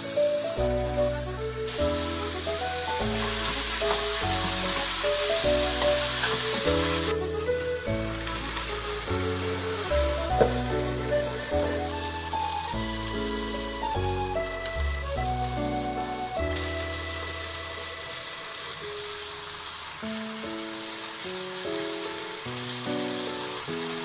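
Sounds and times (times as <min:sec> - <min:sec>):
food sizzling in frying pans: 0:00.0 - 0:24.0
light background music: 0:00.0 - 0:24.0.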